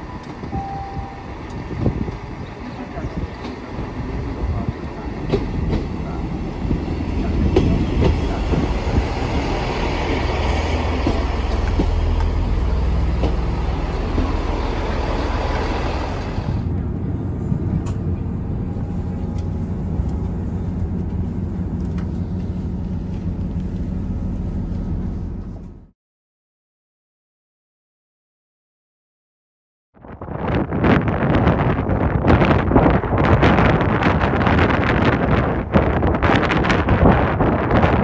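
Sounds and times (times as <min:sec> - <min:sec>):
diesel train engine and wheels: 0:00.0 - 0:25.9, 0:30.4 - 0:38.0
low rumble on board train: 0:00.0 - 0:25.9, 0:30.1 - 0:38.0.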